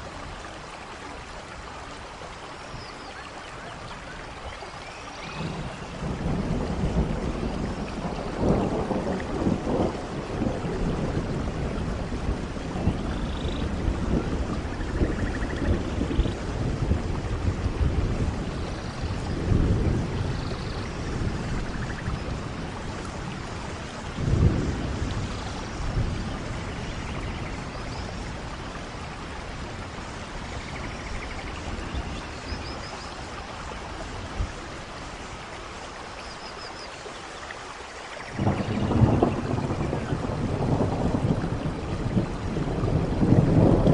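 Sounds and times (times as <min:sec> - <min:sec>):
steady rainfall: 0:00.0 - 0:43.9
thunder rumbling: 0:05.2 - 0:35.5, 0:38.3 - 0:43.9.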